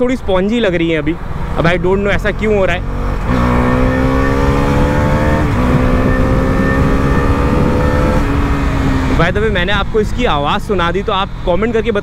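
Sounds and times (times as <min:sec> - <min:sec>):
motorcycle engine accelerating: 0:01.5 - 0:12.0.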